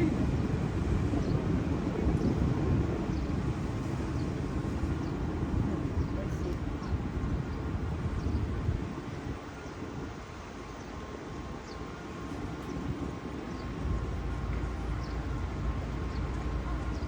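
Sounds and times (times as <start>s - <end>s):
urban background rumble and hiss: 0.0s - 17.0s.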